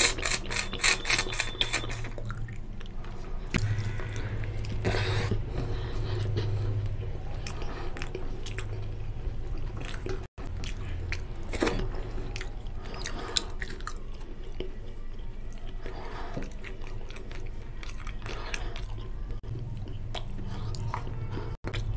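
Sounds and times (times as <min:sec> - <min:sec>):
chewing and wet mouth smacking: 0:00.0 - 0:21.9
steady low hum: 0:01.9 - 0:21.9.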